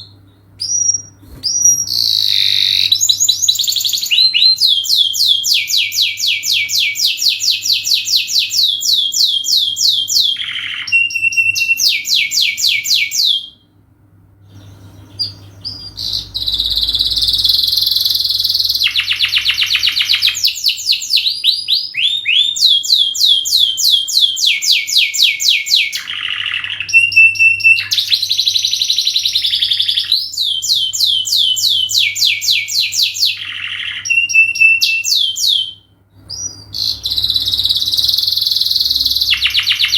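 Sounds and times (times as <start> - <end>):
canary singing trills: 0.0 - 13.7, 14.5 - 39.9.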